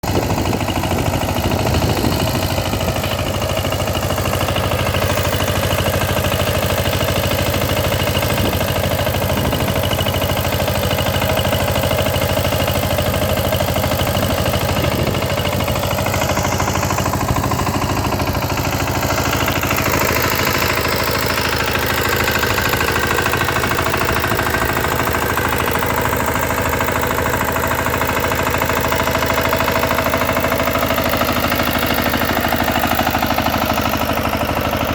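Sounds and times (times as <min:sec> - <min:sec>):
engine running with even hum: 0:00.0 - 0:34.9.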